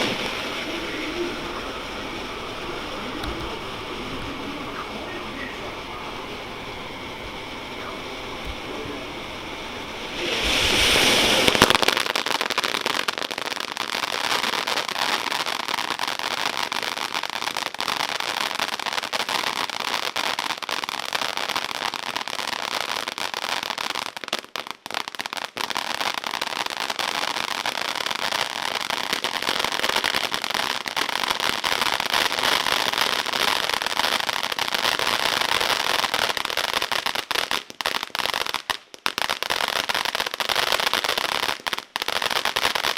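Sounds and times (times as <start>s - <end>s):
firework fountain hissing and crackling: 0.0s - 42.9s.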